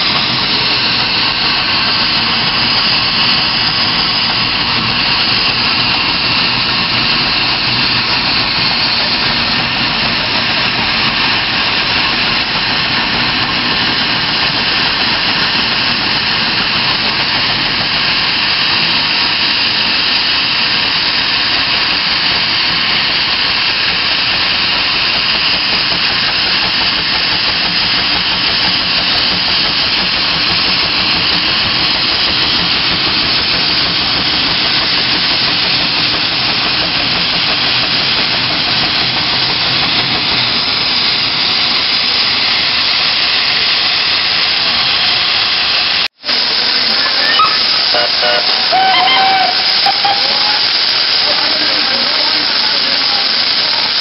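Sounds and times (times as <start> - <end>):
loud hiss of steam: 0.0 - 54.0
steam traction engines working: 0.0 - 54.0.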